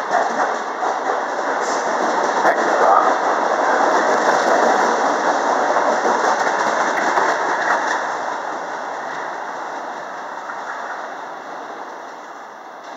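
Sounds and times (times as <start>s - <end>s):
subway train on rails: 0.0s - 12.9s.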